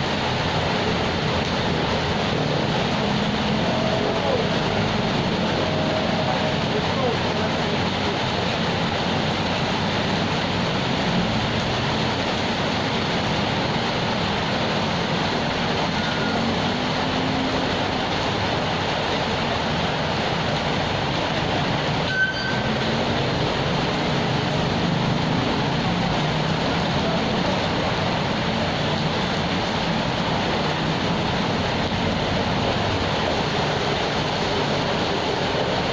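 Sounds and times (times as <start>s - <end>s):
steady rainfall: 0.0s - 35.9s.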